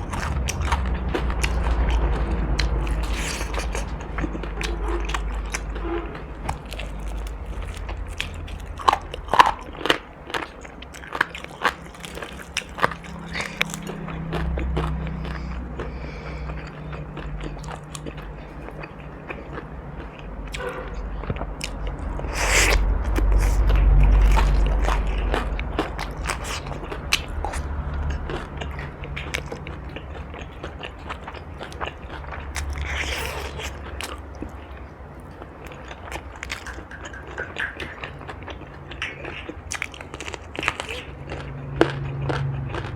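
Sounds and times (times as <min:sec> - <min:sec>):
crunchy food being chewed: 0:00.0 - 0:42.9
wet chewing clicks: 0:00.0 - 0:42.9.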